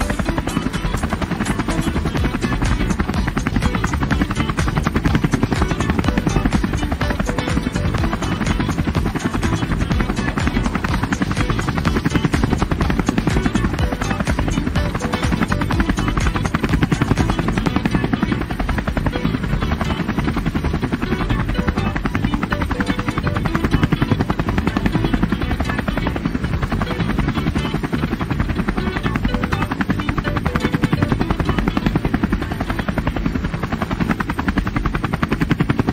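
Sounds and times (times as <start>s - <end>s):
helicopter rotor chopping: 0.0s - 35.9s.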